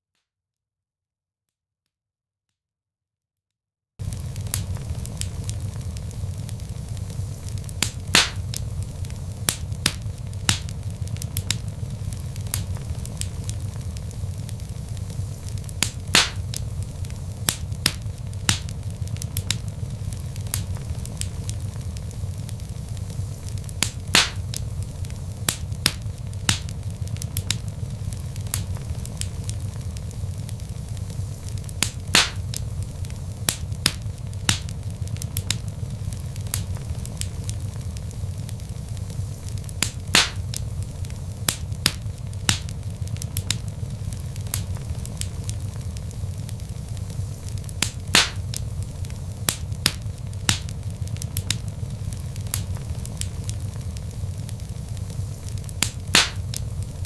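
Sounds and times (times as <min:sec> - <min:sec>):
log fire crackling: 0:04.0 - 0:57.0.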